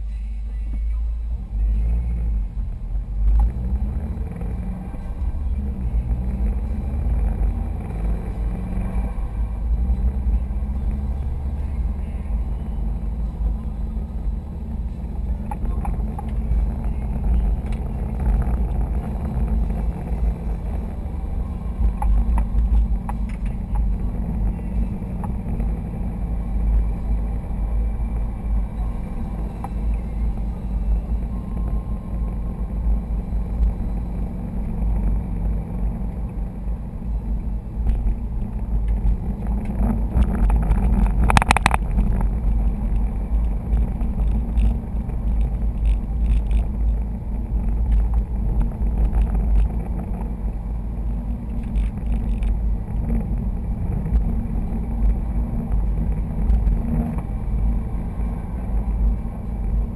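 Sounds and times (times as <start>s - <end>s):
car cabin engine and road drone: 0.0s - 59.9s.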